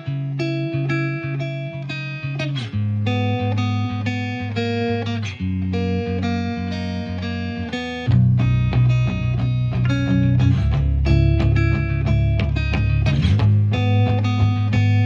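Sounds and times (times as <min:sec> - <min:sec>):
plucked guitar melody: 0:00.0 - 0:15.0
steady bass: 0:02.7 - 0:15.0.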